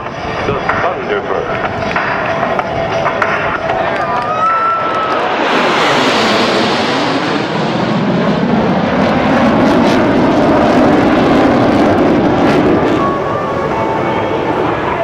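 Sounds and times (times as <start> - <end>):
fighter jets roaring past: 0.0 - 15.0.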